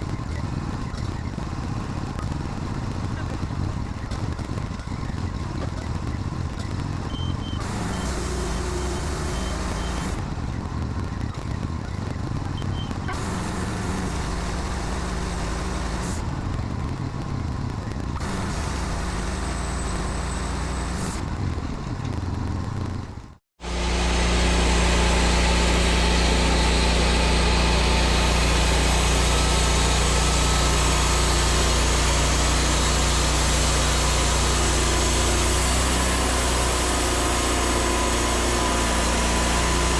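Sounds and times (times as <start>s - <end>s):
sawmill gasoline engine running: 0.0s - 10.8s, 12.5s - 16.3s, 18.2s - 21.2s, 23.6s - 39.9s.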